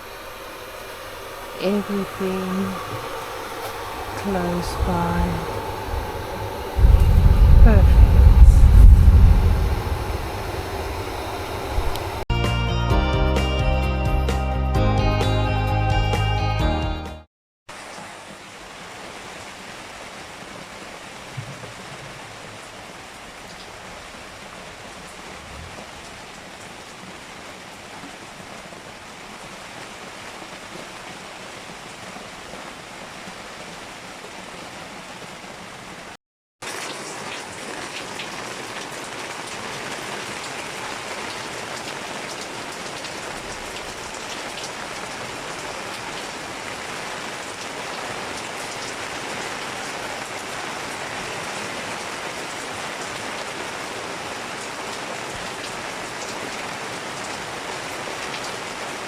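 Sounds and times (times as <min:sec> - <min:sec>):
steady rain falling: 0:00.0 - 0:12.3, 0:17.7 - 0:59.0.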